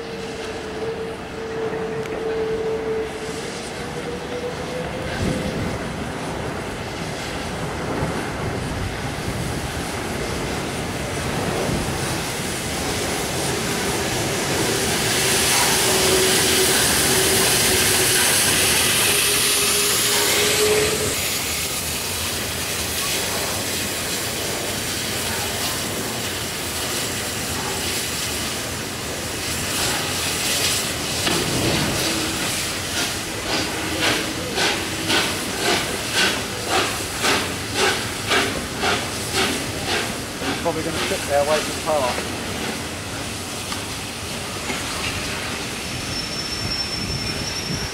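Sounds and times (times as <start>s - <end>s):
train wheels rumbling on rails: 0.0s - 47.9s
steam hissing: 2.2s - 47.9s.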